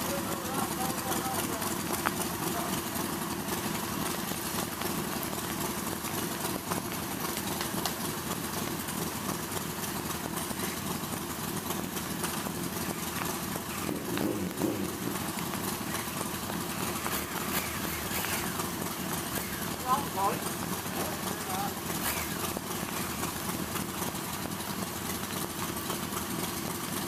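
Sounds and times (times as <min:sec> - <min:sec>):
motorcycle engines idling: 0:00.0 - 0:27.0.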